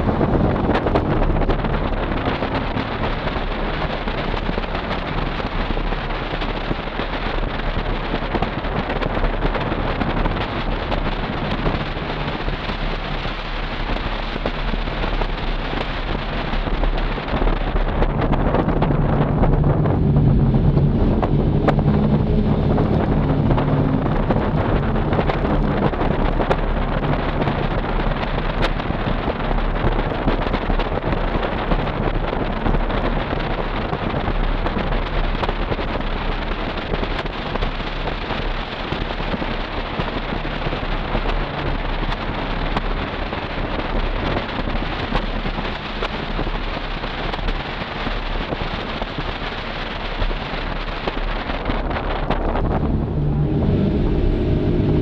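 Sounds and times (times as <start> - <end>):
engine and exhaust tone: 0.0 - 55.0
road and wind noise: 0.0 - 55.0.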